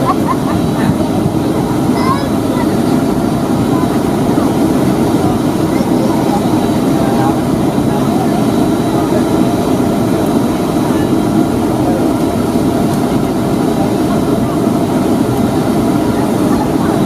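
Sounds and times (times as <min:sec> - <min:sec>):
aircraft cabin drone: 0:00.0 - 0:17.0
faint high engine whine: 0:00.0 - 0:17.0.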